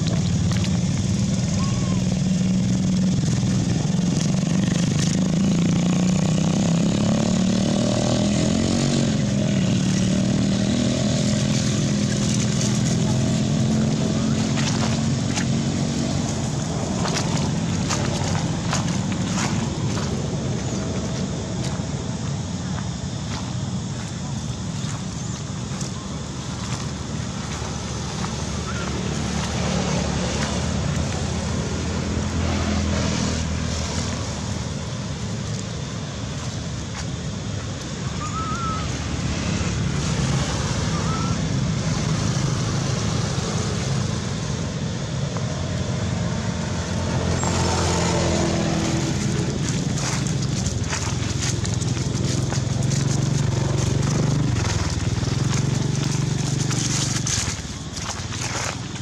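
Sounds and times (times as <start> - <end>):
low outdoor rumble: 0.0 - 59.0.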